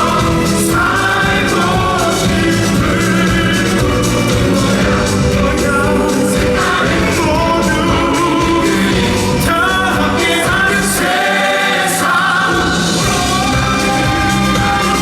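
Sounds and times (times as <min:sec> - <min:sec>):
ensemble singing: 0:00.0 - 0:15.0
orchestral accompaniment: 0:00.0 - 0:15.0.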